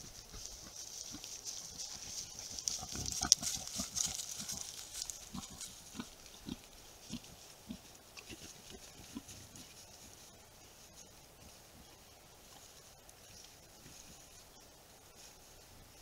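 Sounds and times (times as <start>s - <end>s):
rustling in dry leaves: 0.0s - 16.0s.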